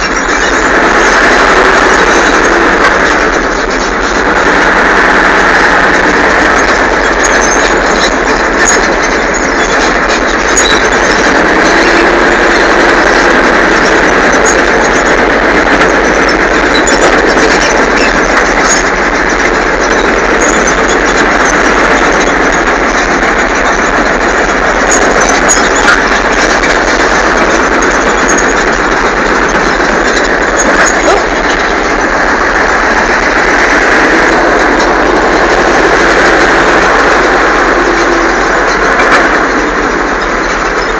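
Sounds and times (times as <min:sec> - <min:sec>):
radial engine running: 0:00.0 - 0:40.9
tracks squealing: 0:00.0 - 0:40.9.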